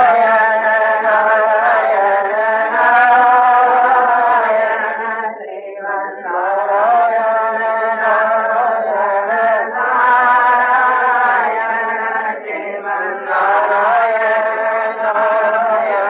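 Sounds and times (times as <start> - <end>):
person chanting: 0.0 - 16.0.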